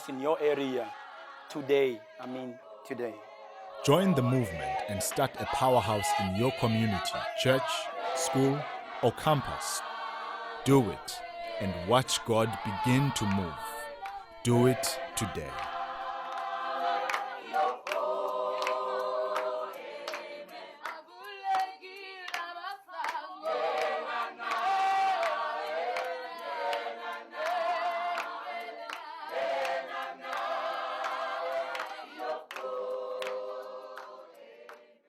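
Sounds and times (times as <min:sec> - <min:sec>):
choir singing: 0:00.0 - 0:35.0.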